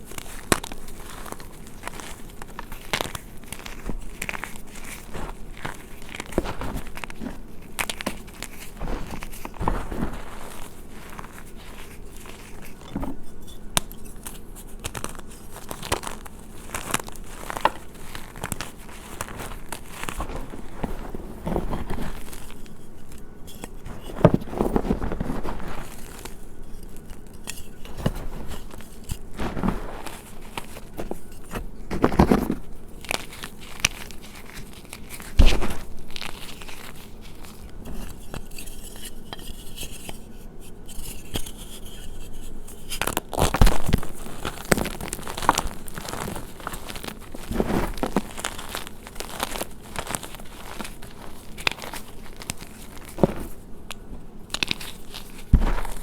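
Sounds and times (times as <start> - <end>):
chalk crunching: 0.0 - 56.0.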